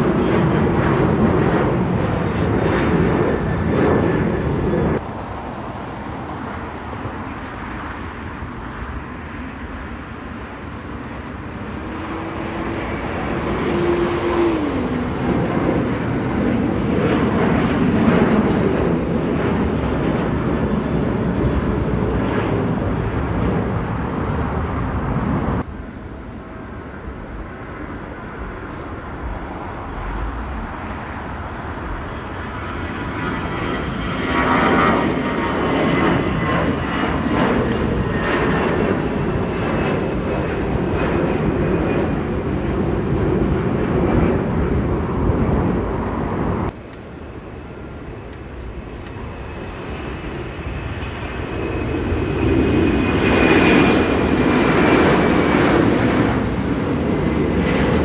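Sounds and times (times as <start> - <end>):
jet airliner engines rushing: 0.0 - 58.0.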